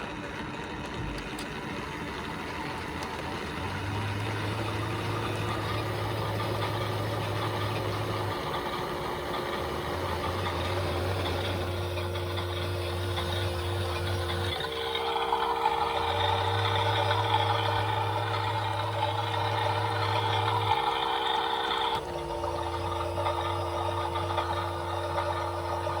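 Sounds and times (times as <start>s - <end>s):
toy washing machine motors humming: 0.0s - 26.0s.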